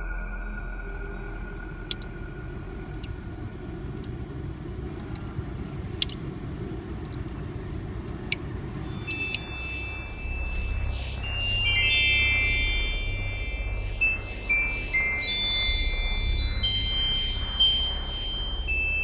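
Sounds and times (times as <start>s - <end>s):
deep steady rumble: 0.0s - 19.0s.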